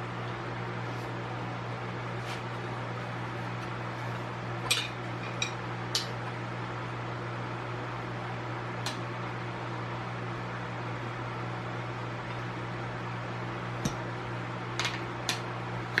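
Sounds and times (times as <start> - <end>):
fan humming: 0.0 - 16.0.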